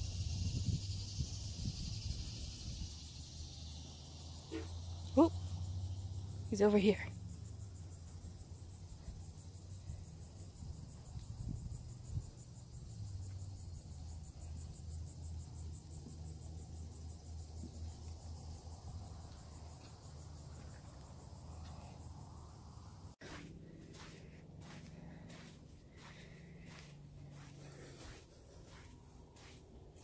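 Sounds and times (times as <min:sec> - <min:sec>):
cricket trilling: 0:00.0 - 0:30.0.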